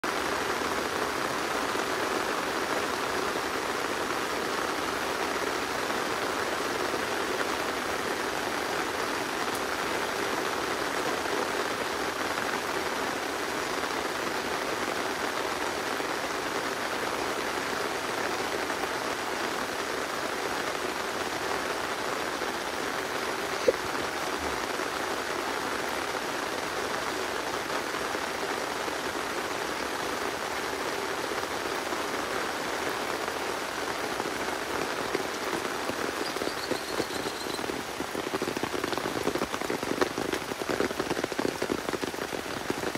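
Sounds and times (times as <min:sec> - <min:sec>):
rain falling on leaves: 0:00.0 - 0:42.9.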